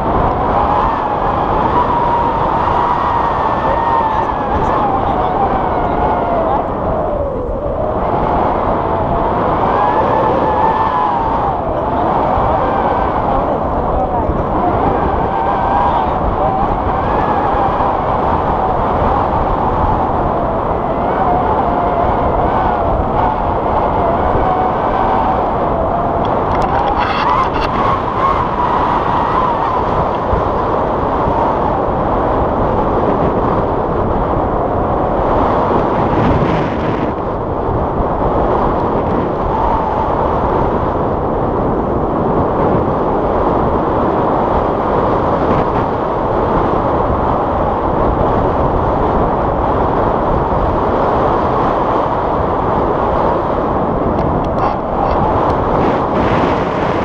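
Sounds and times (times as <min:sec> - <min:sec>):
wind roaring over microphone: 0:00.0 - 0:57.0.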